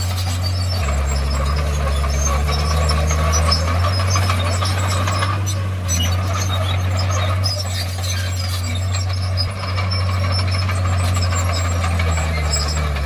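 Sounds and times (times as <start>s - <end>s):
bulldozer diesel engine under load: 0.0s - 13.0s
squeaks and clicks: 0.0s - 13.0s.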